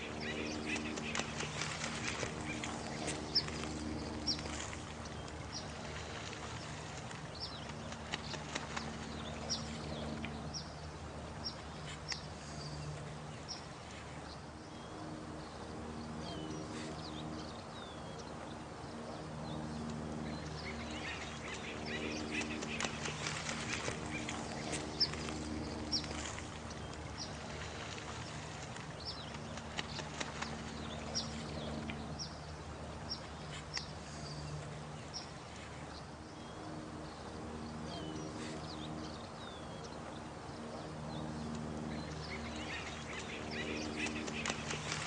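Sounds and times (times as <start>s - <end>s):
low steady droning tones: 0.0s - 45.0s.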